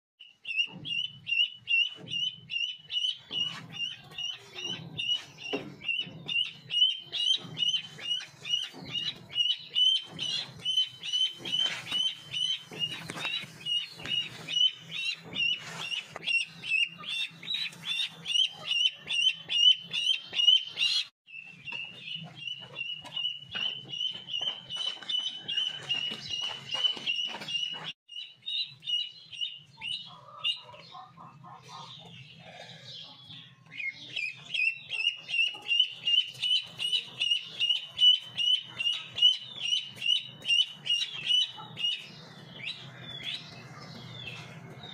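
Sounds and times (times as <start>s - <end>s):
duckling peeping: 0.2s - 44.9s.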